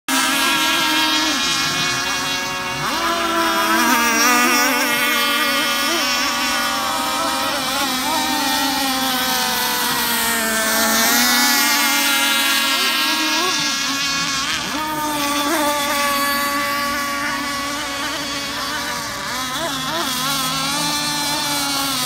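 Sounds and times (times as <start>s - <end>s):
radio-controlled boat motors whining: 0.1s - 22.0s.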